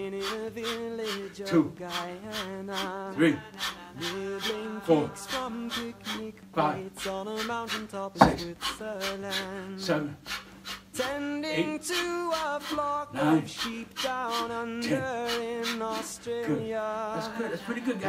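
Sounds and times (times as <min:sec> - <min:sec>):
man singing over a beat: 0:00.0 - 0:10.2, 0:10.9 - 0:18.0.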